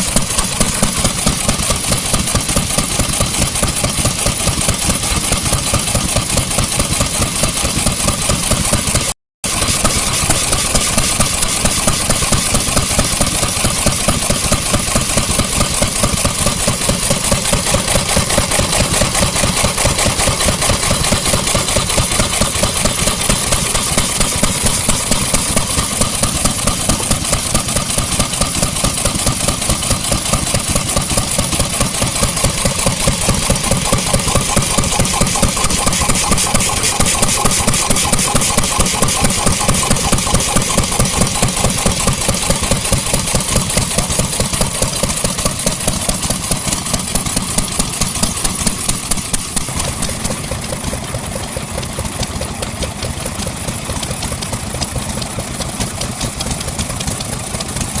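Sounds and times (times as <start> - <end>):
vintage engine running: 0.0 - 58.0.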